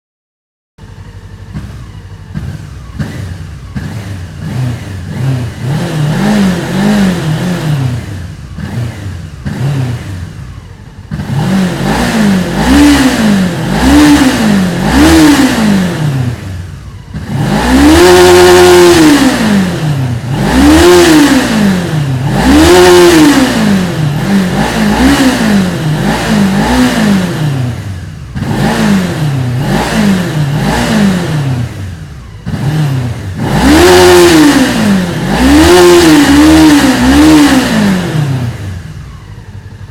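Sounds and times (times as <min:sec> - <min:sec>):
motorcycle engine revving: 0:00.8 - 0:39.9.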